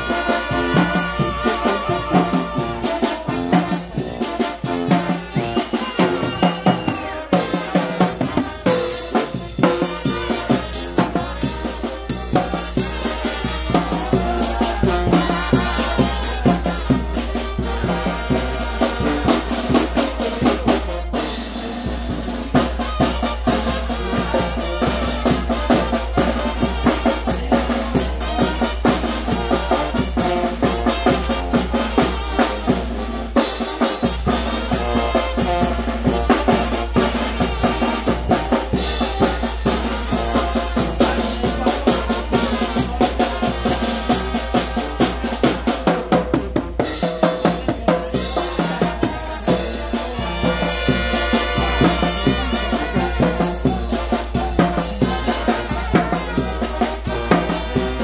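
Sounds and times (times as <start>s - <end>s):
bass drum with cymbal: 0.0s - 58.0s
brass band playing: 0.0s - 58.0s
snare drums: 0.0s - 58.0s.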